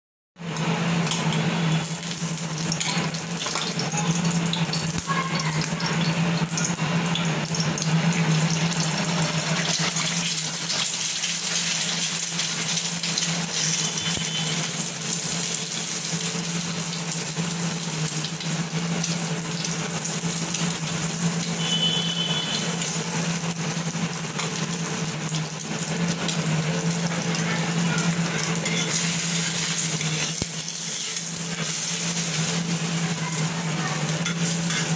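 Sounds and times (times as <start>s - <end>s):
egg sizzling in oil: 1.0s - 34.9s.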